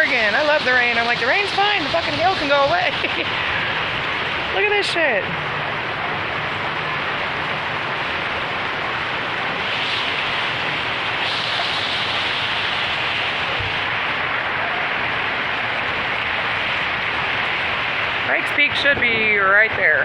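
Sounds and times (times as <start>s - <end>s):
heavy rain and hail pelting: 0.0s - 20.0s.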